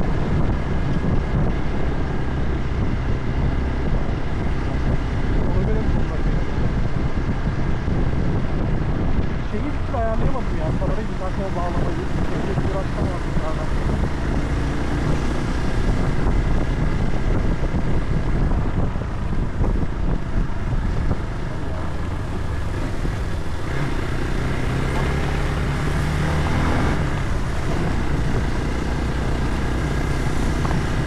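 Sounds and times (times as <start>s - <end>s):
road noise: 0.0s - 31.0s
vehicle engine drone: 0.0s - 31.0s.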